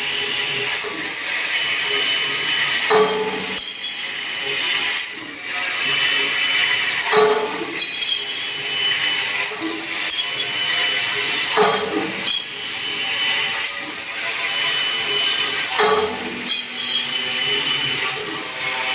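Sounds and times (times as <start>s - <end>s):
laser cutting machine hissing: 0.1s - 18.9s.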